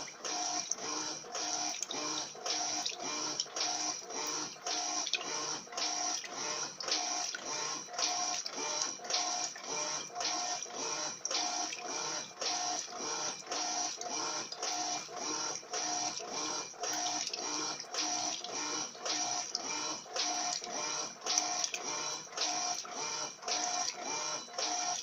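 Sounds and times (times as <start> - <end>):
washing machine agitating: 0.0 - 25.0.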